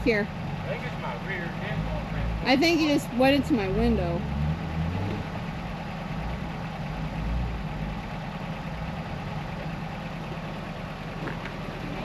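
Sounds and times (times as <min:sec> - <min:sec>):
engine idling with low rumble: 0:00.0 - 0:12.0.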